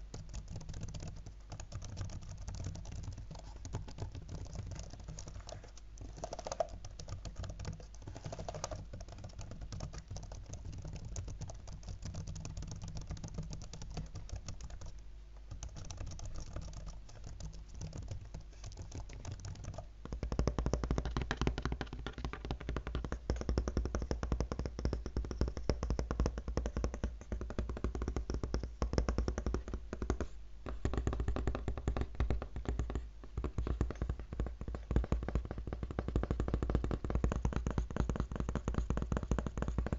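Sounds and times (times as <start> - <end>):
fingertips typing on laptop: 0.0 - 39.9.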